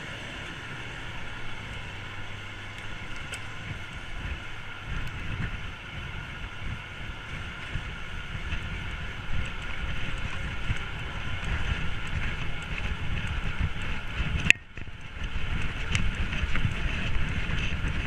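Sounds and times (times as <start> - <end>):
bike rolling hum: 0.0 - 18.0
wind buffeting microphone: 0.0 - 18.0.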